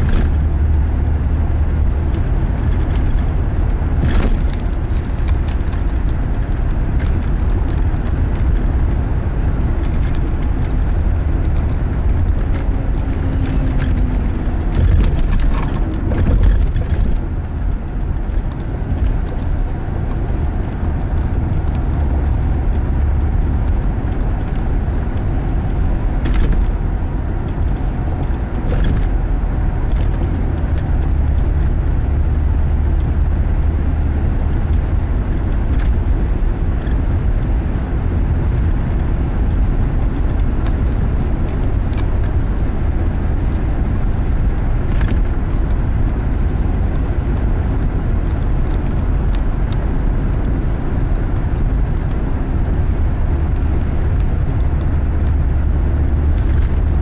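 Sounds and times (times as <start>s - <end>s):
car driving rumble inside cabin: 0.0s - 57.0s.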